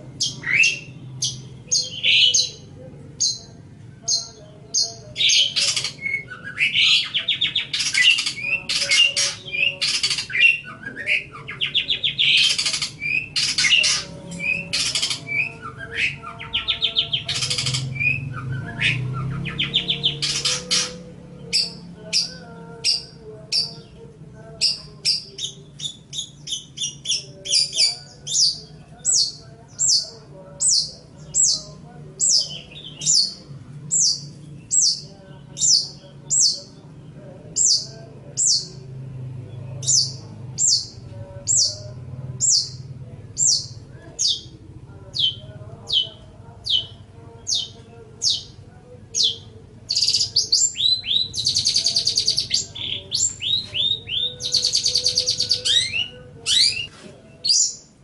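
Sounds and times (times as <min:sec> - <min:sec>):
harsh rasping bird calls: 0:00.0 - 0:58.0.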